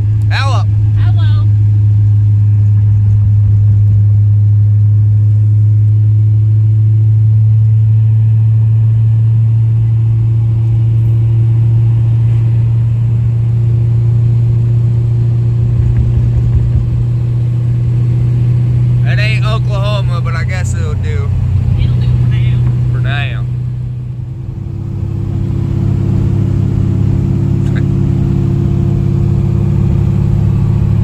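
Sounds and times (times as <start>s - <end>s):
car engine low drone: 0.0s - 31.0s.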